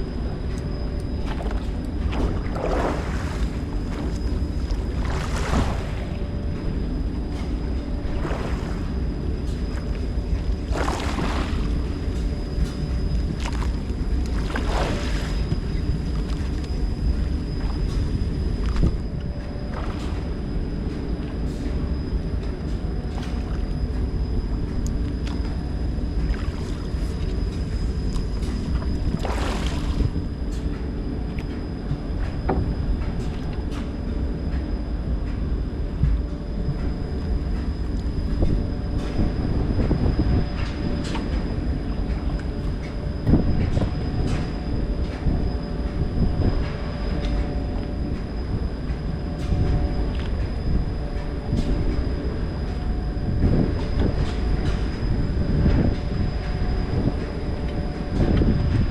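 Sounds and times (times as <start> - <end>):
low mechanical rumble: 0.0 - 58.9.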